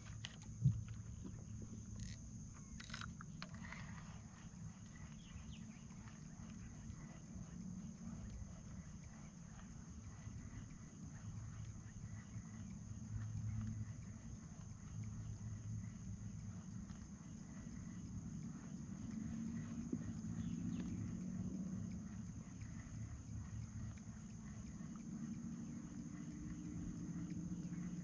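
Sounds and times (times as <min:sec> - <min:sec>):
high-pitched insect chirring: 0:00.0 - 0:28.0
sharp clicks: 0:00.0 - 0:28.0.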